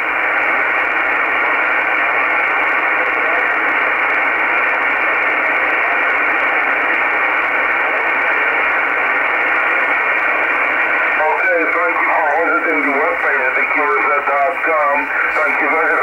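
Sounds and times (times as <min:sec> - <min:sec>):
radio receiver band noise hiss: 0:00.0 - 0:16.0.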